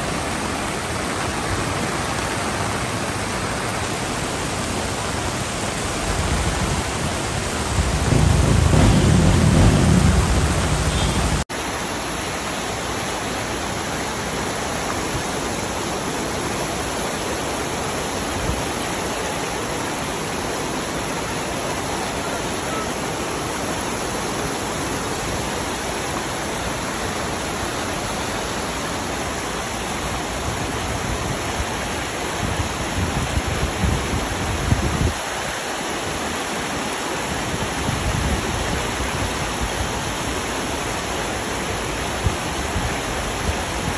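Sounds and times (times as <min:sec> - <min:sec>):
floodwater rushing: 0:00.0 - 0:43.9.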